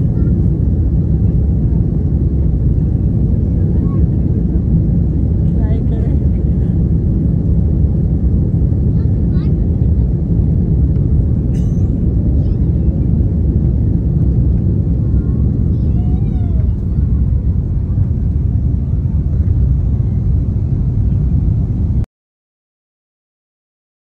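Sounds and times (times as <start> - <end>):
airplane cabin engine rumble: 0.0 - 22.1.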